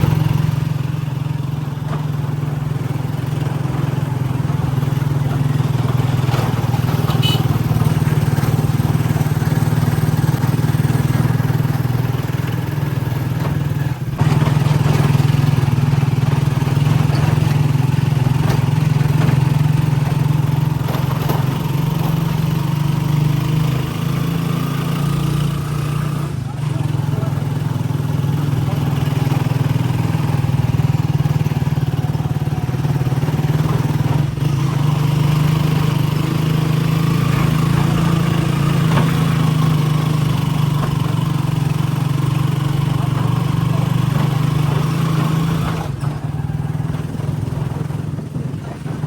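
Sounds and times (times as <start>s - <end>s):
small motorcycle engine running: 0.0s - 49.0s.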